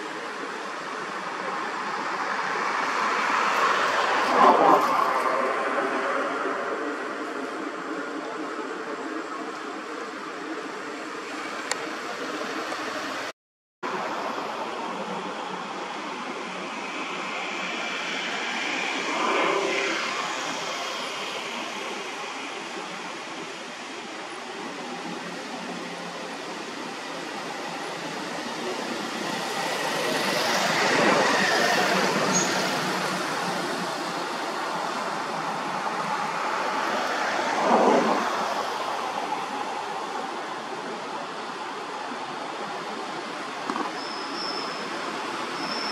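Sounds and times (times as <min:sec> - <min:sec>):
steady rushing noise: 0:00.0 - 0:45.9.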